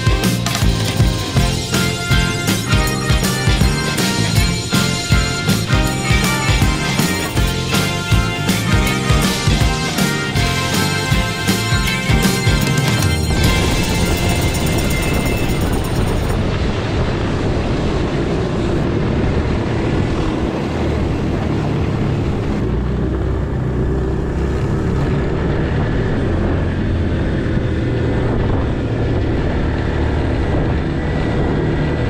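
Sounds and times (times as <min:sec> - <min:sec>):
snowmobile track rushing on snow: 0:00.0 - 0:32.0.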